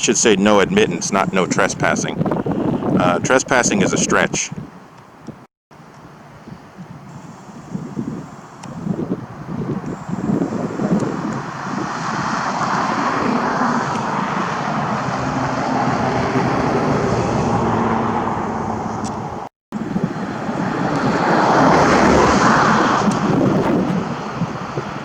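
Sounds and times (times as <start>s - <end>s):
passing motor vehicles: 0.0s - 4.0s, 4.6s - 25.0s.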